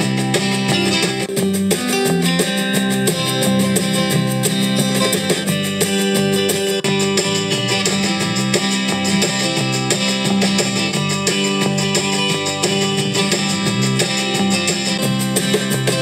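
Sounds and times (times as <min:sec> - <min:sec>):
guitar music through a car speaker: 0:00.0 - 0:16.0.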